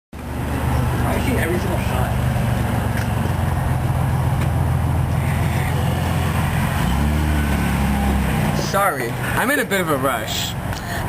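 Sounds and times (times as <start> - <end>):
car engine and road noise: 0.1 - 11.0.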